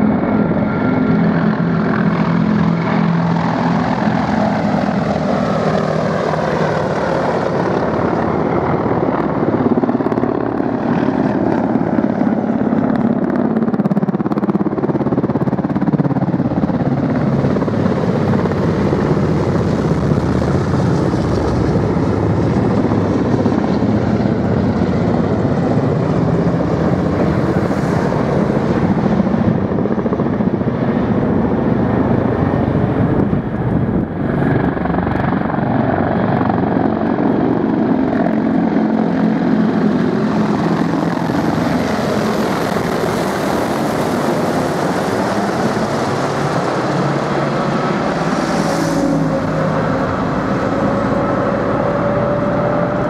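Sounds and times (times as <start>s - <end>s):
helicopters roaring overhead: 0.0s - 53.0s.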